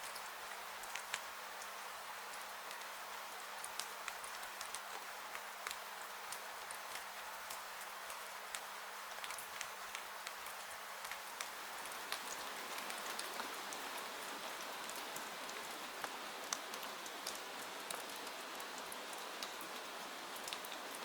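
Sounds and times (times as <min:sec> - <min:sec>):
sharp ticks and drips: 0:00.0 - 0:21.0
steady rain falling: 0:00.0 - 0:21.0.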